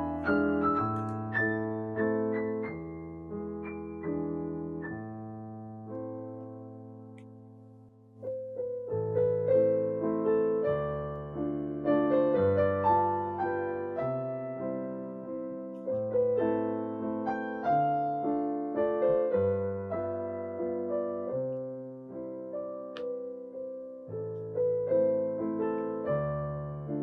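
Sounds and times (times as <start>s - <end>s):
gentle piano music: 0.0s - 27.0s.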